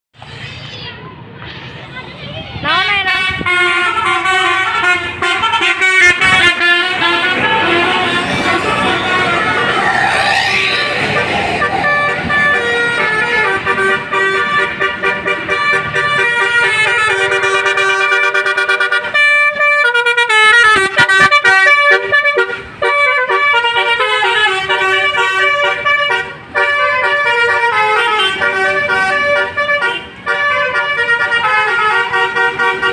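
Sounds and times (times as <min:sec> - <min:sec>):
musical air horn tune: 0:03.1 - 0:32.9.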